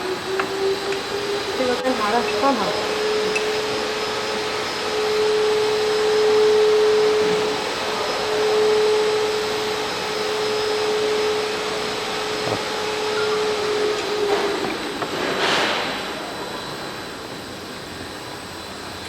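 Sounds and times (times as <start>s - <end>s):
machine running with rushing hum: 0.0s - 19.0s.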